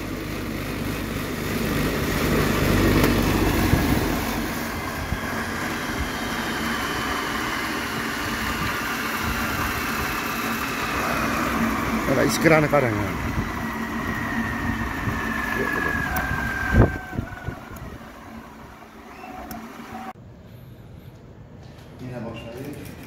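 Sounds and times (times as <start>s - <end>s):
electric motor and generator running: 0.0s - 20.2s.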